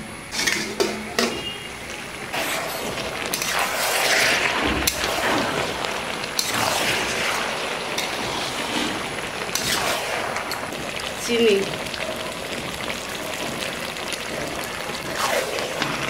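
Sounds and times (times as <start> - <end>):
curry sizzling in pan: 0.3 - 16.0.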